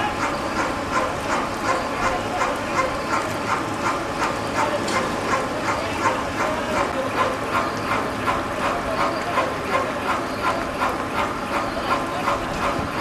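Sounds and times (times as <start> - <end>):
train washing machine running: 0.0 - 13.0.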